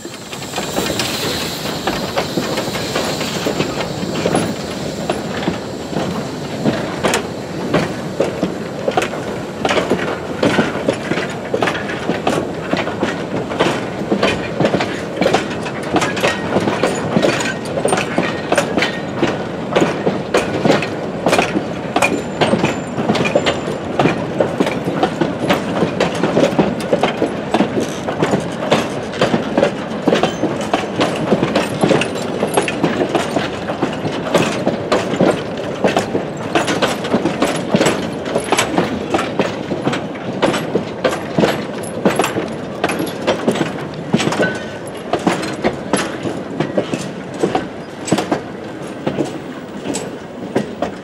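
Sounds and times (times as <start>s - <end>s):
train rolling noise: 0.0s - 51.0s
wheels clacking over rail joints: 0.0s - 51.0s.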